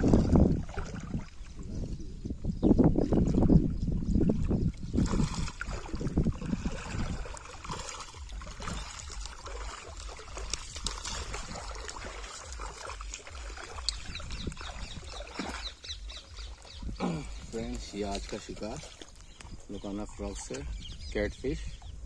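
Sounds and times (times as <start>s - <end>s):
river water trickling: 0.0s - 22.0s.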